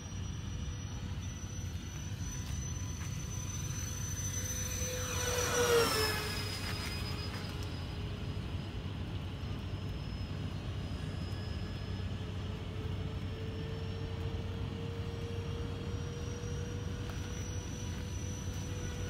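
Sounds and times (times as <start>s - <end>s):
electric ducted fans whining: 0.0s - 19.0s.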